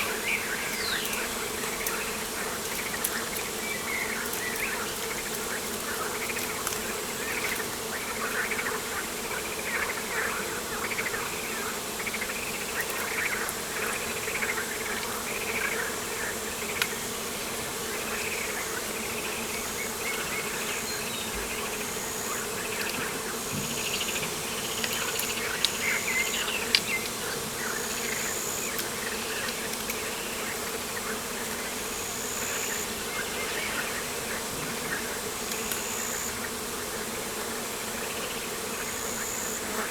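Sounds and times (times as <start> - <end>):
birds and insects chirping: 0.0 - 39.9.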